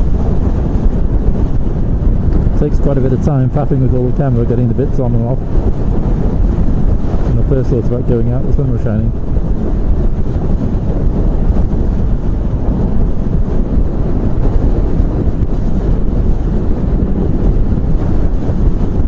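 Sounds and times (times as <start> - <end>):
wind buffeting: 0.0 - 19.0.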